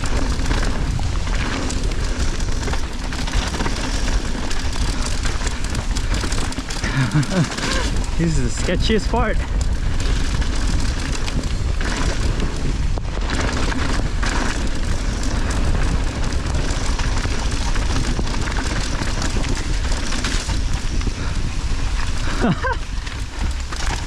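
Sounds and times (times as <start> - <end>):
bike rattling over rocks: 0.0 - 24.0
wind rumble on microphone: 0.0 - 24.0.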